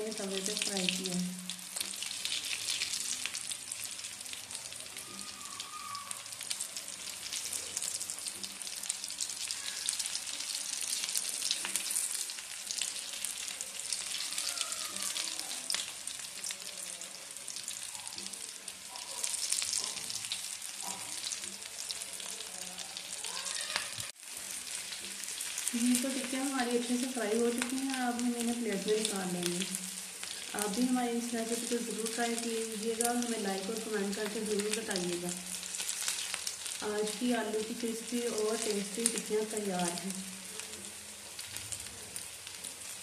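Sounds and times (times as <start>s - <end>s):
cutlets sizzling with pops: 0.0s - 43.0s.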